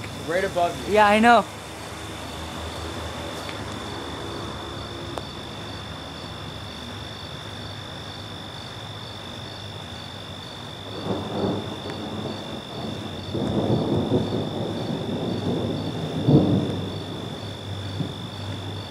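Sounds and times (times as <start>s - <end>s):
insects trilling: 0.0s - 18.9s
pulsing insect chirp: 0.0s - 18.9s
rain hiss: 0.0s - 18.9s
thunder rumble: 0.0s - 18.9s.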